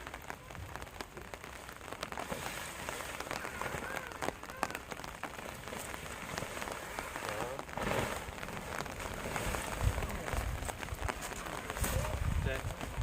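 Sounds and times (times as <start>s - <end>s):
sharp raindrop hits: 0.0s - 13.0s
steady rain falling: 0.0s - 13.0s.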